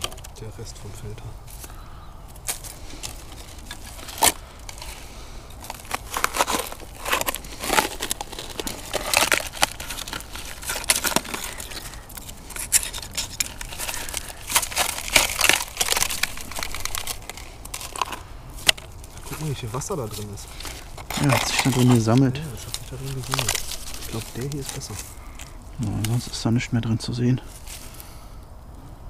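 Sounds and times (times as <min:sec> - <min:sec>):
crackling and crunching: 0:00.0 - 0:28.8.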